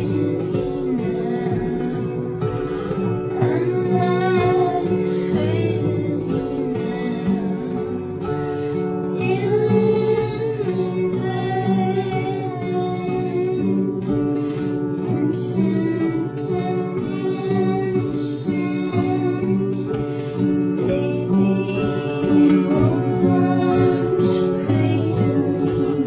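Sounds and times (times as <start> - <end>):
plucked guitar: 0.0 - 26.0
woman singing: 0.0 - 26.0.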